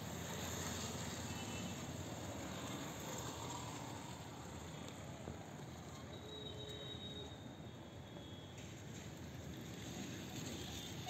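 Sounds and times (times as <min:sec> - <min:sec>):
faint road traffic: 0:00.0 - 0:11.0.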